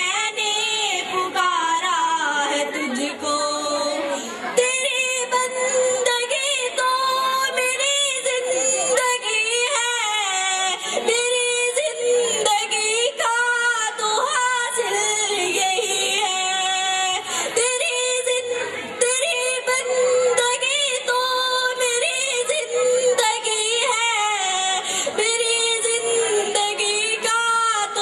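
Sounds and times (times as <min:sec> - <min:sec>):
woman singing: 0:00.0 - 0:28.0.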